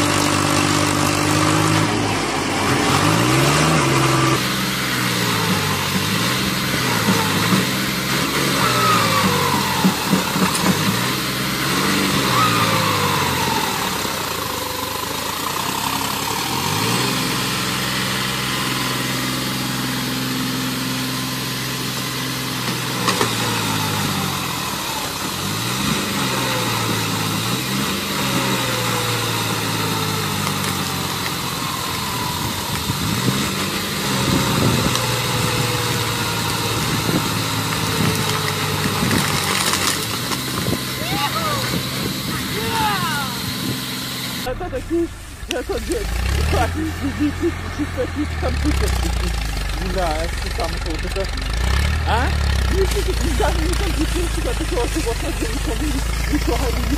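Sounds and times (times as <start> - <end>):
tractor engine revving: 0.0 - 56.9.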